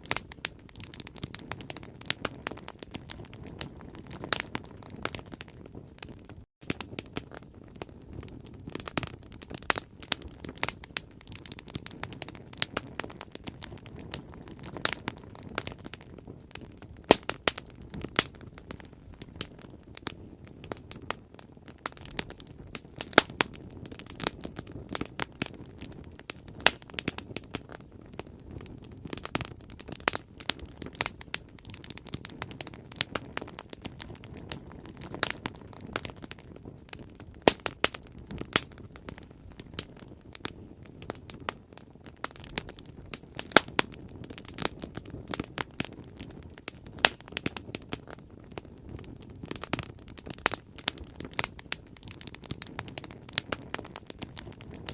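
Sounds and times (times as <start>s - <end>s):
bonfire crackling: 0.0s - 54.9s.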